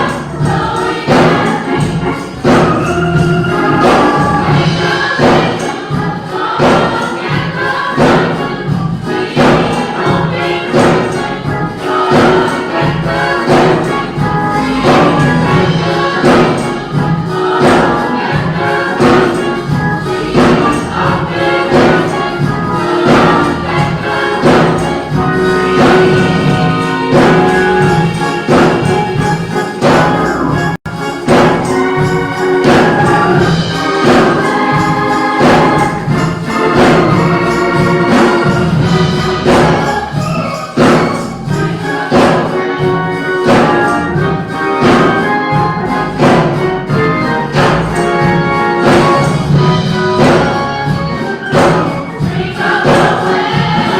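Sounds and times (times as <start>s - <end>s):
gospel choir with band: 0.0s - 53.9s.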